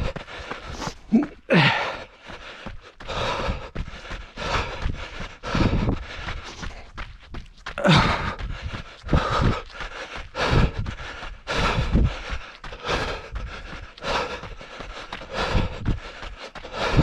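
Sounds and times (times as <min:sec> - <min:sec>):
runner breathing hard: 0:00.0 - 0:17.0.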